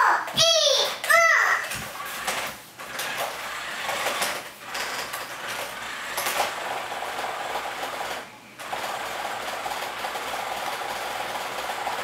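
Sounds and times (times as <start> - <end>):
toy car motors whirring: 1.1 - 12.0.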